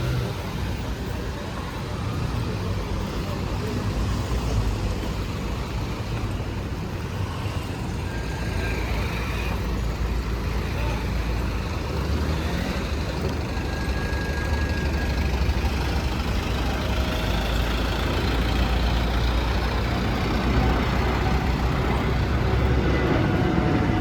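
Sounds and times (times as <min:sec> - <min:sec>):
low rumble of street traffic: 0:00.0 - 0:24.0
truck and bus engines: 0:00.0 - 0:24.0.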